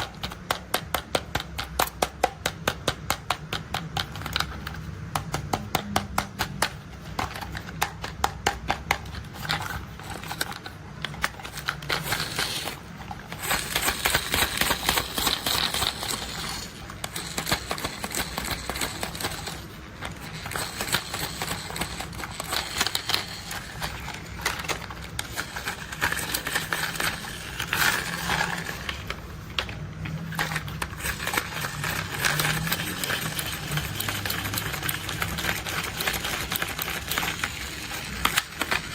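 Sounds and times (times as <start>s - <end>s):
plastic toy vehicles clicking: 0.0s - 38.9s.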